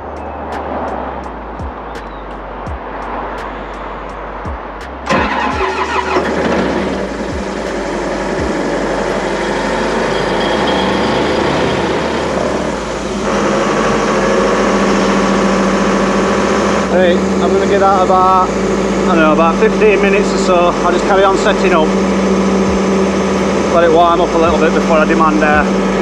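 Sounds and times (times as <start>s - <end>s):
air compressor engine running: 5.1s - 26.0s.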